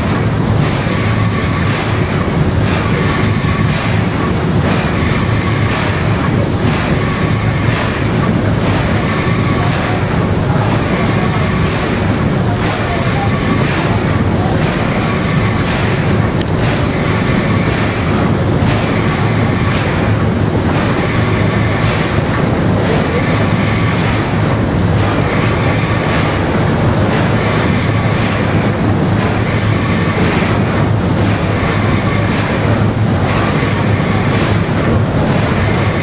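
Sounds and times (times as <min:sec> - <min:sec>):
paddle wheels and steam engine beating: 0:00.0 - 0:36.0.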